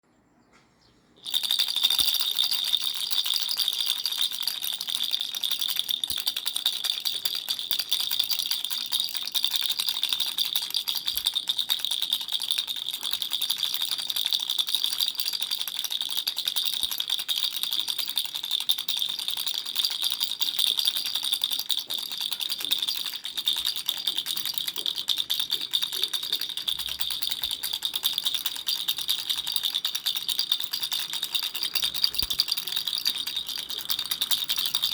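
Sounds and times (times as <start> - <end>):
baby rattle shaken: 1.2 - 34.9.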